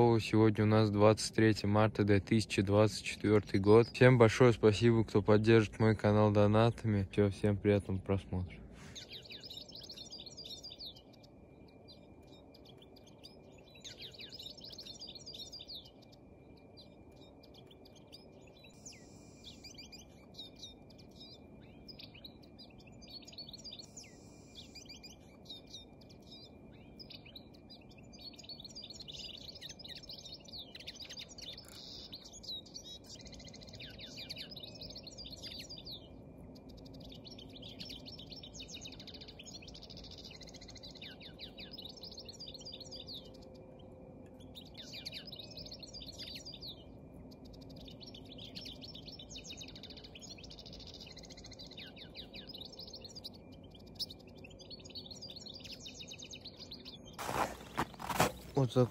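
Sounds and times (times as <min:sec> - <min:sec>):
songbirds twittering and chirping: 0:00.0 - 0:58.9.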